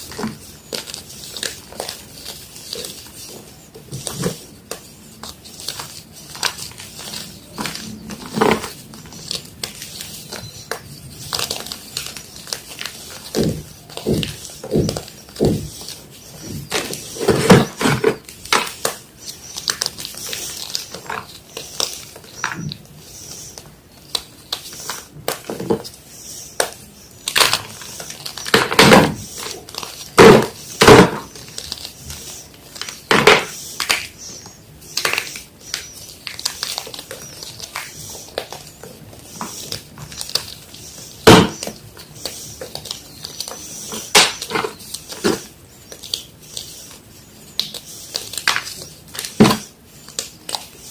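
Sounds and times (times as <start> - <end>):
chalk being crushed: 0.0 - 50.9.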